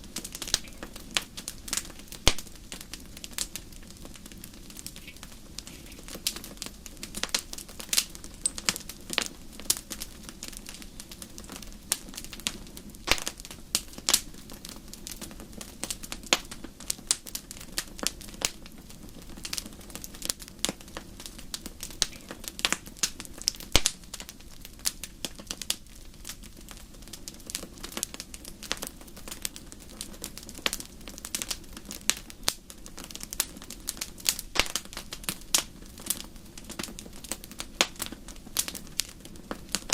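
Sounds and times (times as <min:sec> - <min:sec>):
campfire wood snapping and popping: 0:00.0 - 0:39.9.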